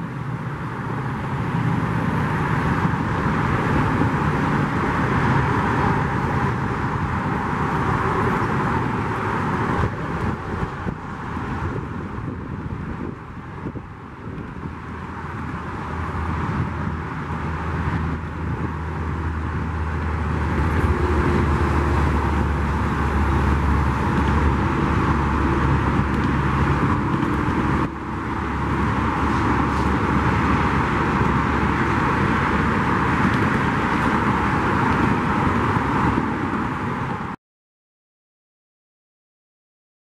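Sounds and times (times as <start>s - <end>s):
diesel train drone: 0.0s - 37.4s
freeway traffic rushing: 0.0s - 37.4s.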